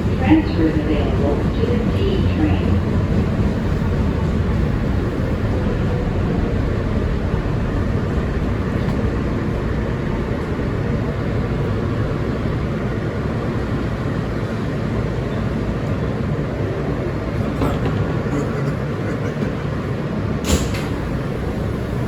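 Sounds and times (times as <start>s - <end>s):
subway car rumbling: 0.0s - 22.0s.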